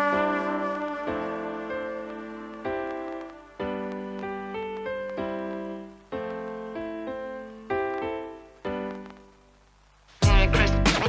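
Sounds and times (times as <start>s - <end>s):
soft electric piano chords: 0.0s - 9.6s.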